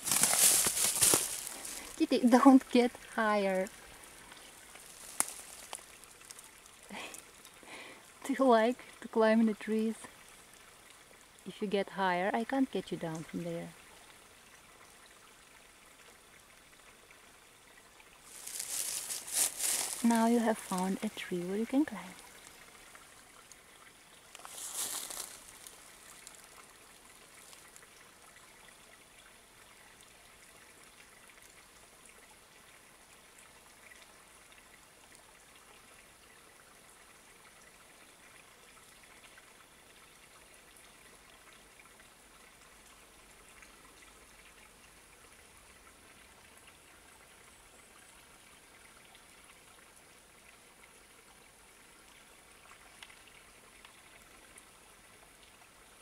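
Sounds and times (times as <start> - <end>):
forest ambience hiss: 0.0 - 56.0.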